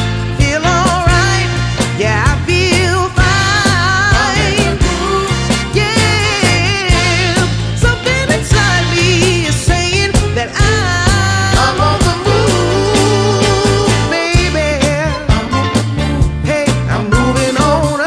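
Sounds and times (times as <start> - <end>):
song with sung vocals: 0.0 - 18.0.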